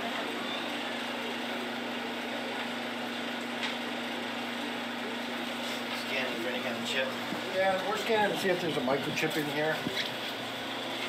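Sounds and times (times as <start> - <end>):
air-handling system hum: 0.0 - 11.0.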